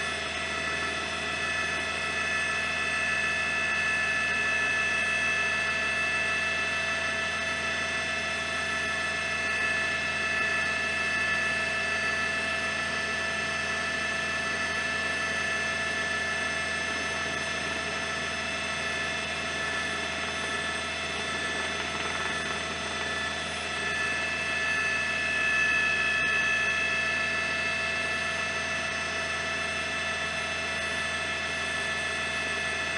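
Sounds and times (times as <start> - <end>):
helicopter running: 0.0 - 32.9.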